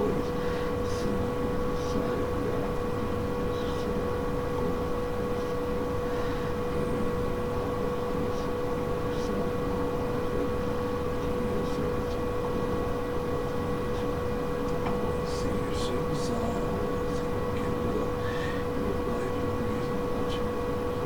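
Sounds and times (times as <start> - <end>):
hum and hiss: 0.0 - 21.0.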